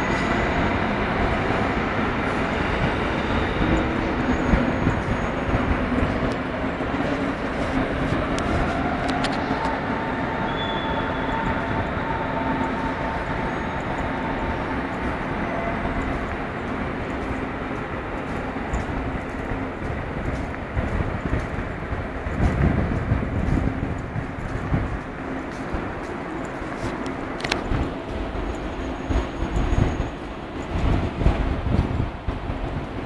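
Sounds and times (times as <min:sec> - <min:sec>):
faint train whine: 0:00.0 - 0:33.0
train rumbling: 0:00.0 - 0:33.0.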